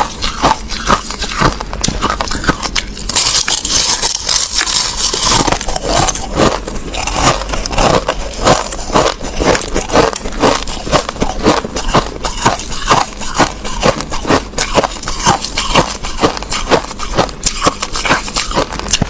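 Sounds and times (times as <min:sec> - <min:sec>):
crushed ice being chewed: 0:00.0 - 0:19.0.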